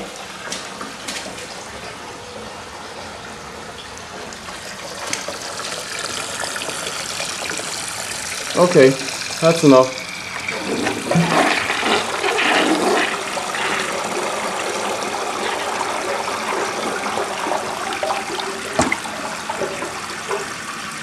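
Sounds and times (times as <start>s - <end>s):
toilet flushing: 0.0s - 21.0s.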